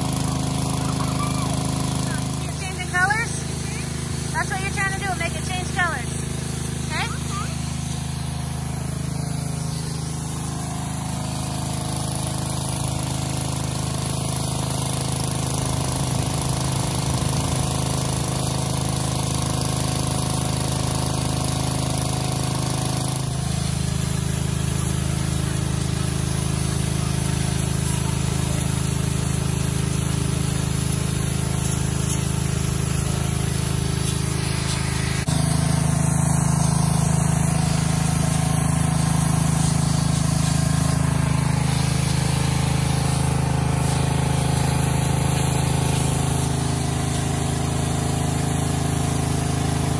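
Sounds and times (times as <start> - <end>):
pressure washer engine hum: 0.0 - 49.9
water jet hissing: 0.0 - 49.9.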